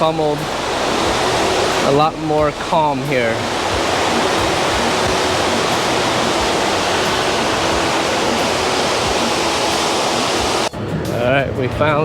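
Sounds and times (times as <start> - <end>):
small waterfall pouring: 0.0 - 10.7.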